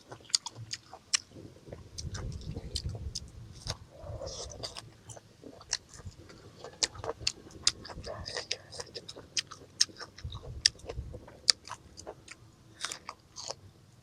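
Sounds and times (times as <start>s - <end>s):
person chewing wetly: 0.0s - 13.6s.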